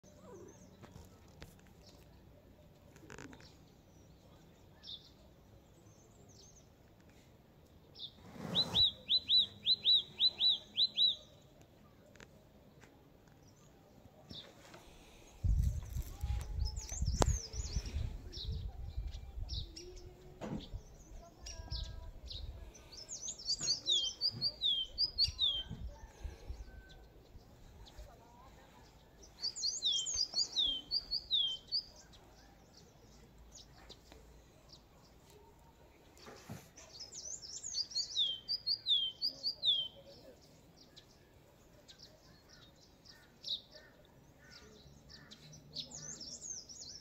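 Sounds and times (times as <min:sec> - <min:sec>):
songbird chirping: 0:00.0 - 0:47.0.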